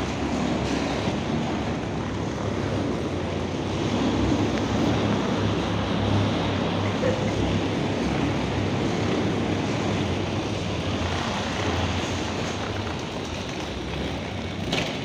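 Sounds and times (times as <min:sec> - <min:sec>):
suitcase wheels rolling on rubber floor: 0:00.0 - 0:15.0.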